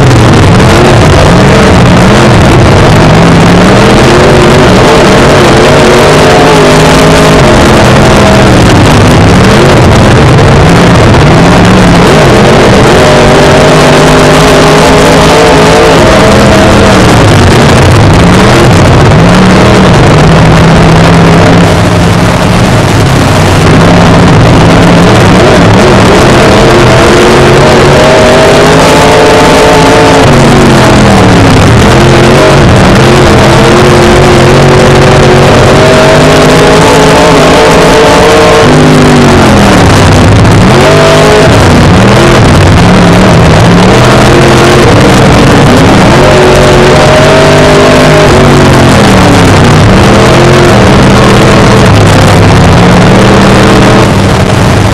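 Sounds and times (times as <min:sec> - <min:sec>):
race car engine revving: 0:00.0 - 0:54.9
wind and tyre noise: 0:00.0 - 0:54.9.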